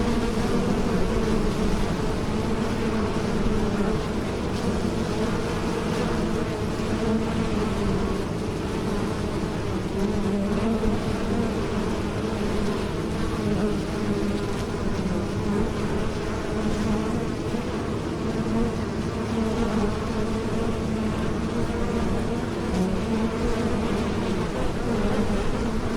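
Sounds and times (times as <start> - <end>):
bees buzzing in flight: 0.0 - 25.9.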